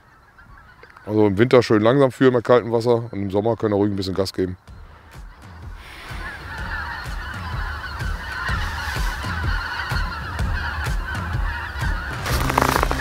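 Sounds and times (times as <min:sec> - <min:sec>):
flock of geese honking: 0:00.0 - 0:13.0.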